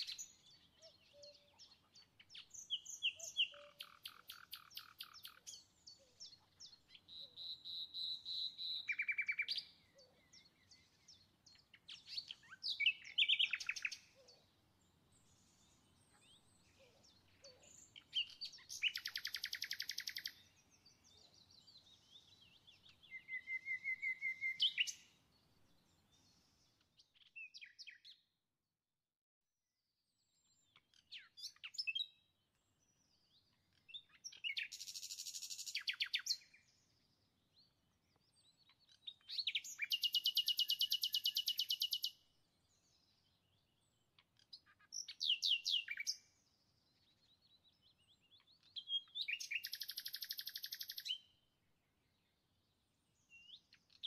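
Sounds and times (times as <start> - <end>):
songbird trilling and chirping: 0.0 - 14.5, 15.1 - 28.2, 30.1 - 51.4, 52.0 - 54.0.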